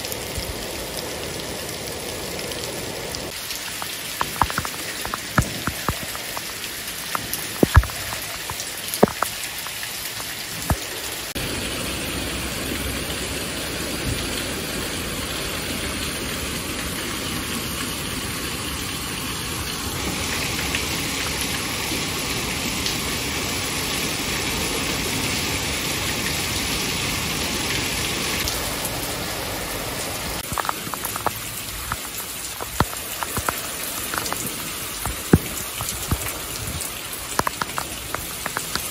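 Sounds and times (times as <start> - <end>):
heavy rain pouring: 0.0 - 38.9
raindrops tapping close by: 2.2 - 26.7, 28.3 - 38.9.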